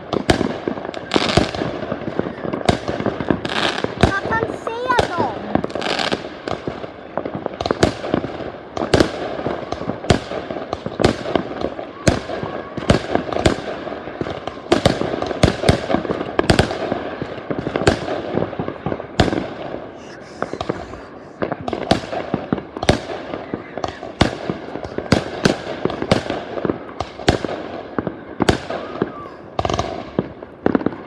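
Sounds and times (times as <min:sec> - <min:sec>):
continuous background noise: 0:00.0 - 0:31.0
fireworks bangs: 0:00.0 - 0:31.0.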